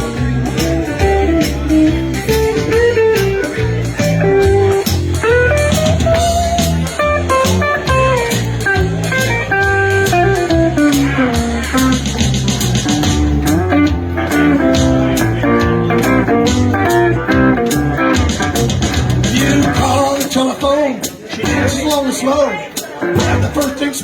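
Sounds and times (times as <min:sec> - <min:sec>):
lead guitar solo: 0:00.0 - 0:19.8
bass and drums: 0:00.0 - 0:22.2, 0:22.8 - 0:24.0.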